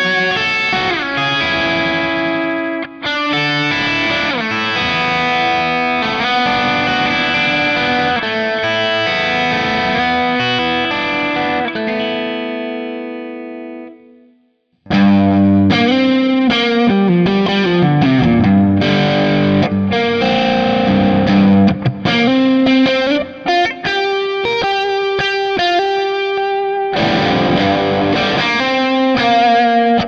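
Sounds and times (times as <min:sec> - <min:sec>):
electric guitar chords and notes: 0:00.0 - 0:30.0
electric guitar riff: 0:00.0 - 0:30.0.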